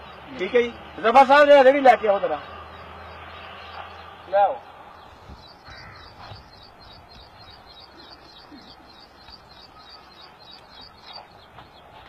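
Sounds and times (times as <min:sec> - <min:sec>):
bird chirping: 0:00.0 - 0:12.0
faint outdoor background: 0:00.0 - 0:12.0.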